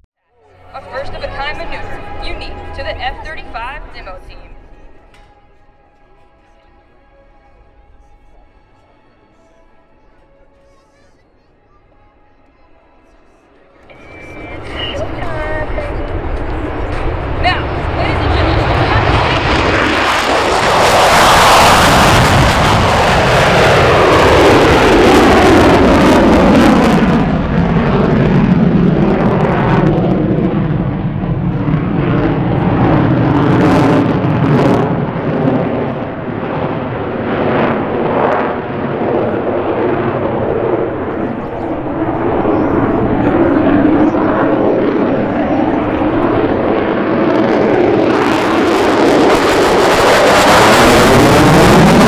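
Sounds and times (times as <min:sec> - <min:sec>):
jet aircraft roaring past: 0:00.4 - 0:52.0.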